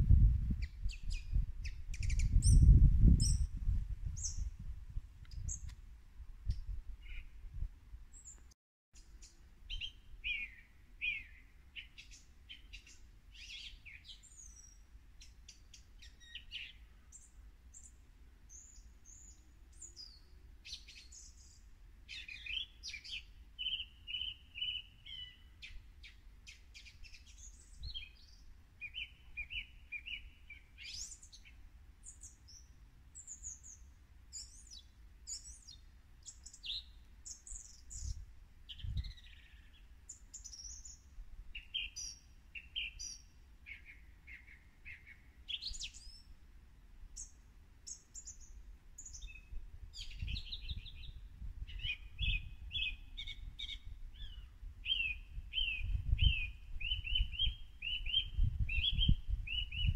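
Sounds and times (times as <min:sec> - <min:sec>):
songbirds chirping and trilling: 0:00.5 - 0:05.8, 0:06.4 - 0:46.4, 0:47.0 - 0:59.9.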